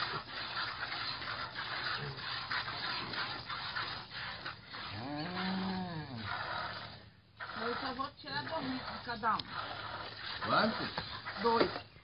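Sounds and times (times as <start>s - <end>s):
piglet suckling and smacking: 0.0s - 11.9s
rubbing against udder: 0.0s - 12.0s.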